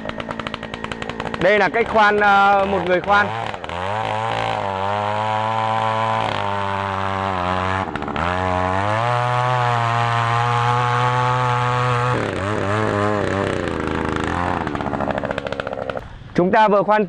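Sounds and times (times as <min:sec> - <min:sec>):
earth auger engine running: 0:00.0 - 0:16.1.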